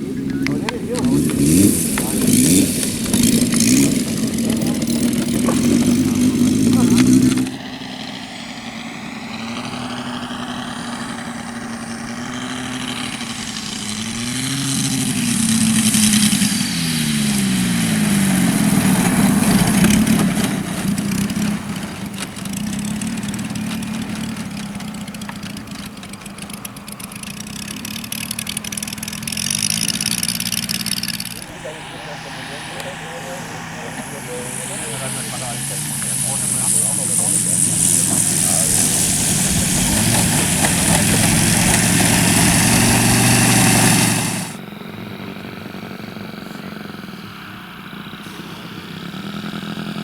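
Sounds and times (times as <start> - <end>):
model airplane engine running: 0.0 - 50.0.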